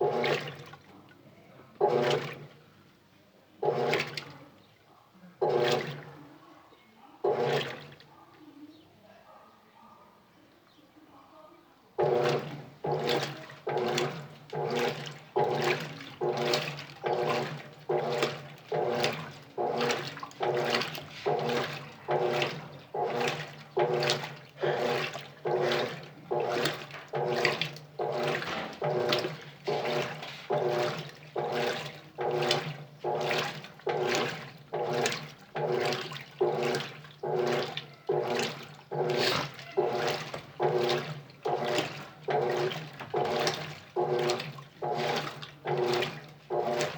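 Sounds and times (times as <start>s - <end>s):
washing machine hum: 0.0s - 2.8s, 3.5s - 4.7s, 5.4s - 8.4s, 11.9s - 46.9s
washing machine water sloshing: 0.0s - 2.8s, 3.6s - 4.7s, 5.4s - 6.4s, 7.2s - 8.2s, 11.9s - 46.9s.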